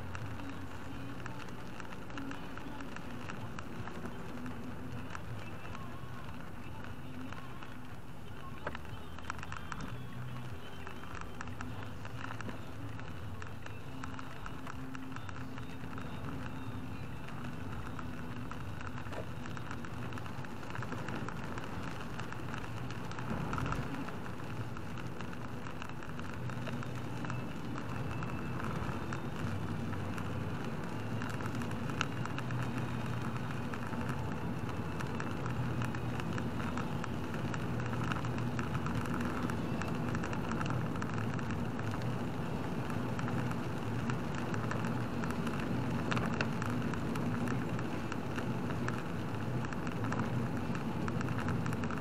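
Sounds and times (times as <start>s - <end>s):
heavy rain on car roof: 0.0s - 52.0s
tyres on wet road hum: 0.0s - 52.0s.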